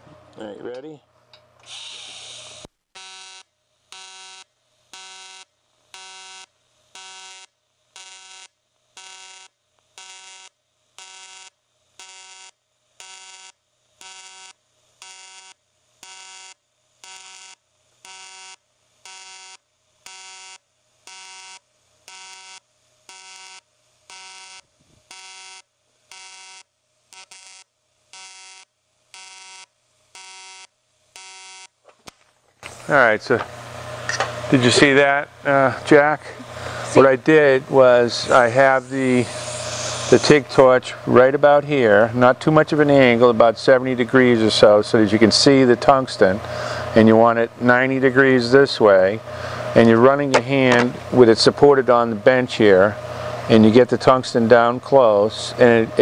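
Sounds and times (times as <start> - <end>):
pulsing welding arc buzz: 0.0 - 56.0.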